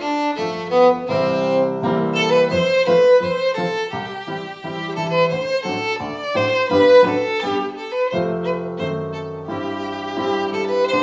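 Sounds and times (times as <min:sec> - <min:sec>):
violin melody: 0:00.0 - 0:11.0.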